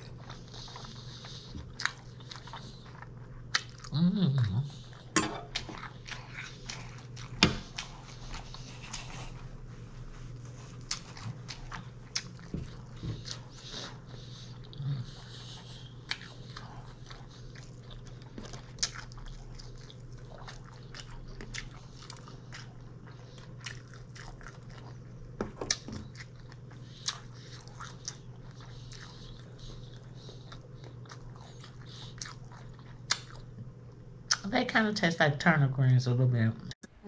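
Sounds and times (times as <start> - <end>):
person chewing food: 0.0 - 34.4.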